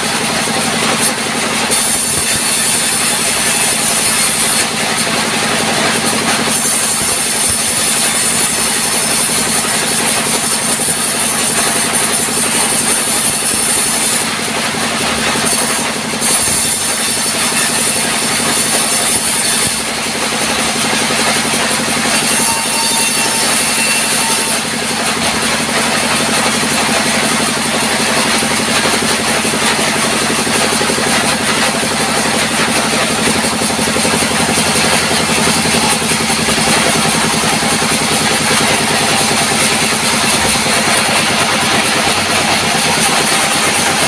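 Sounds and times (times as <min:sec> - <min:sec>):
band saw droning: 0:00.0 - 0:44.0
blade cutting through plank: 0:00.0 - 0:44.0.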